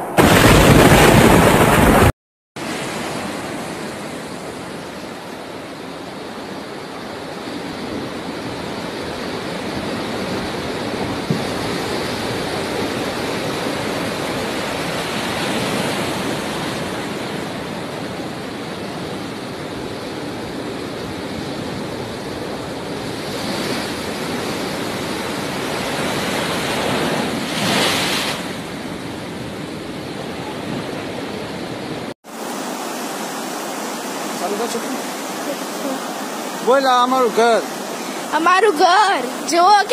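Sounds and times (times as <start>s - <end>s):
waves crashing against a pier: 0.0s - 6.2s, 7.2s - 39.9s
wind: 0.0s - 39.9s.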